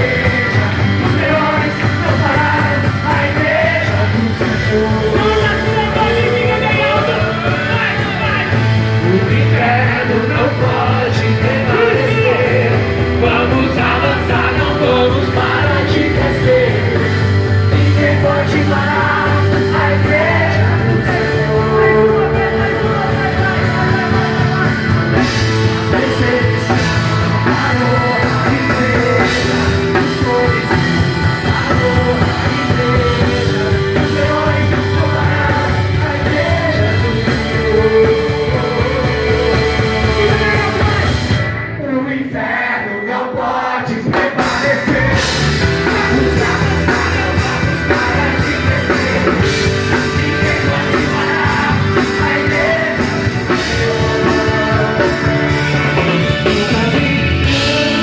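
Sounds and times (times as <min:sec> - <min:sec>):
rock worship song with singing: 0:00.0 - 0:58.0.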